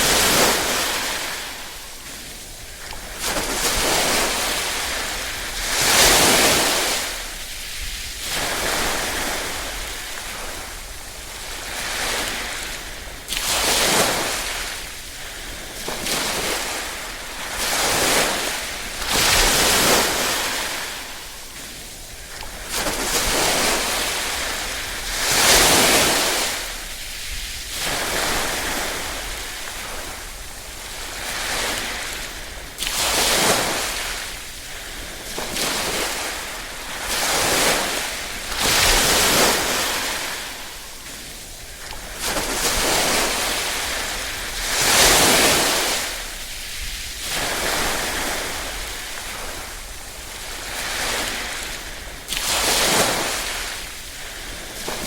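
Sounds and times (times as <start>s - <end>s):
small waves washing in: 0.0s - 55.0s.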